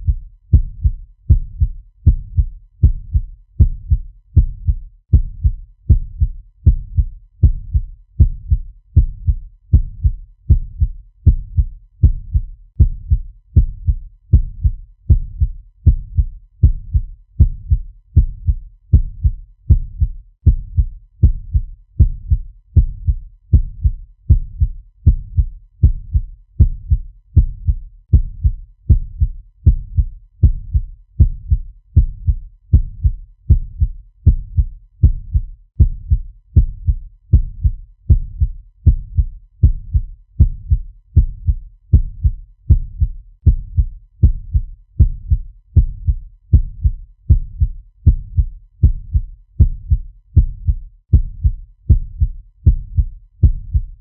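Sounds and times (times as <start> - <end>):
fast heartbeat thumps: 0.0 - 54.0.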